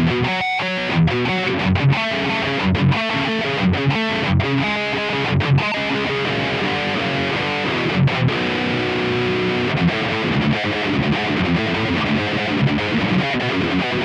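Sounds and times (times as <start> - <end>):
distorted electric guitar riff: 0.0 - 14.0.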